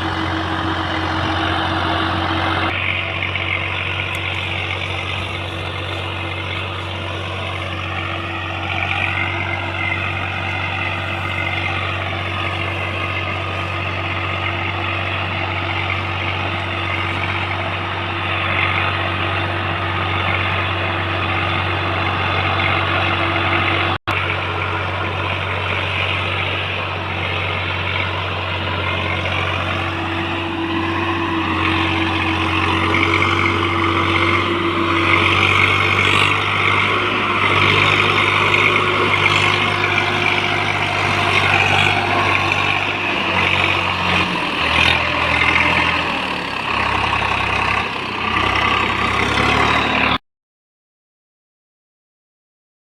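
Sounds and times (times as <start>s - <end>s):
tractor diesel engine running: 0.0s - 50.2s.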